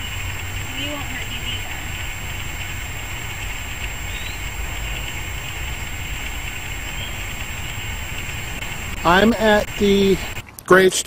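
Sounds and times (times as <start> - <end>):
even high hiss: 0.0 - 10.4
low rumble: 0.0 - 10.4.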